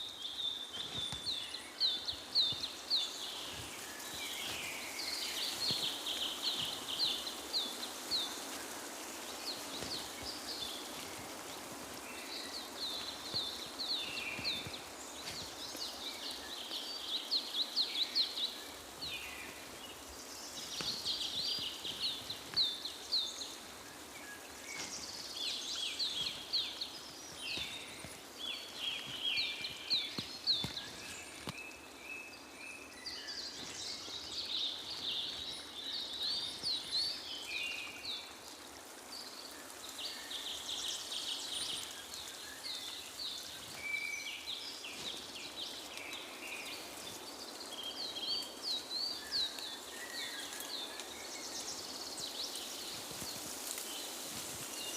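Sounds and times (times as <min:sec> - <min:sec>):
background hiss: 0:00.0 - 0:54.9
songbirds chirping: 0:00.0 - 0:54.9.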